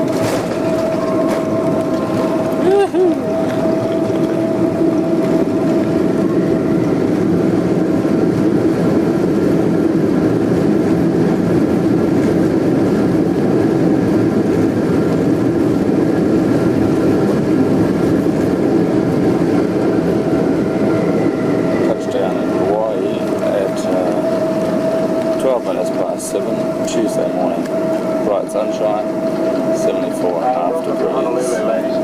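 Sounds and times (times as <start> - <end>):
airplane cabin engine drone: 0.0 - 32.0.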